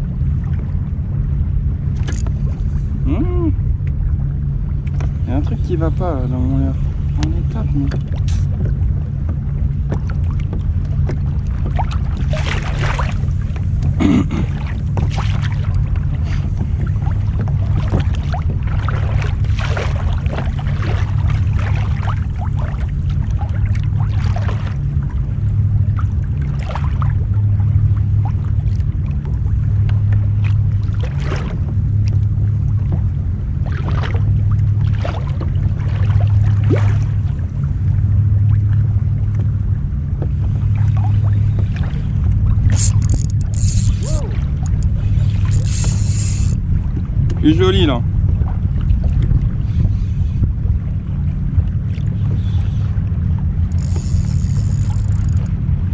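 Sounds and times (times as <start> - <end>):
low rumble: 0.0 - 55.9
water lapping against kayak hull: 0.0 - 55.9.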